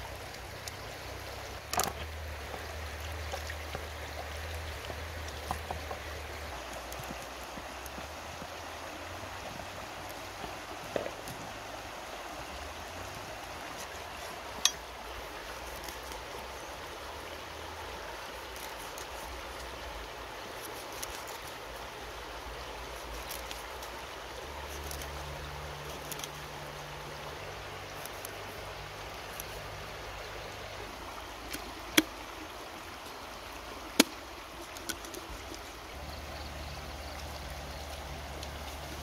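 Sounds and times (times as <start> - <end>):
river water running over stones: 0.0 - 39.0.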